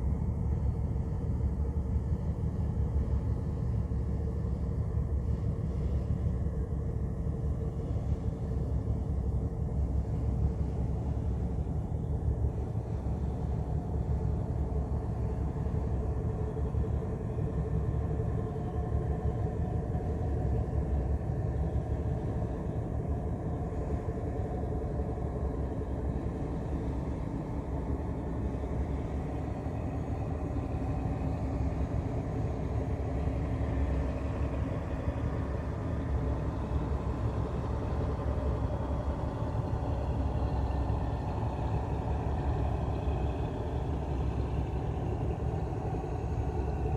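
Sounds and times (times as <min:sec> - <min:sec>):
ship engine rumbling: 0:02.9 - 0:46.9.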